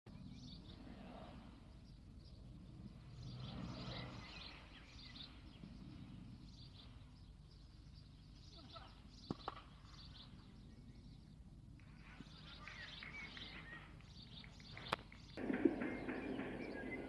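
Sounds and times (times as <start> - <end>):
birds chirping: 0.1 - 17.0.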